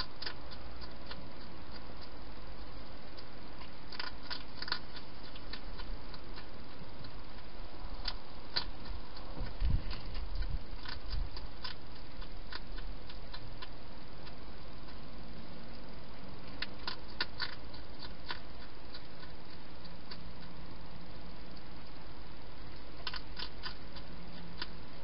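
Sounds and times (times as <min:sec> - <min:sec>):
hedgehog crunching food: 0:00.0 - 0:25.0
steady hiss: 0:00.0 - 0:25.0.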